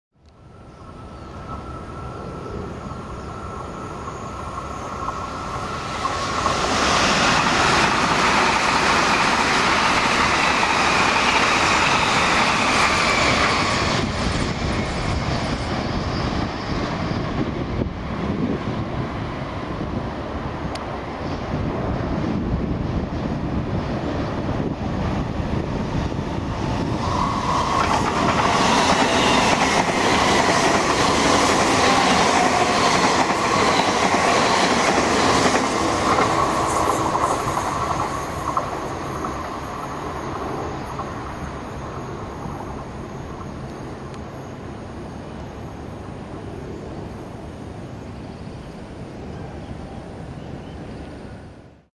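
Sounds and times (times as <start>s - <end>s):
electric train running on track: 0.2s - 51.7s.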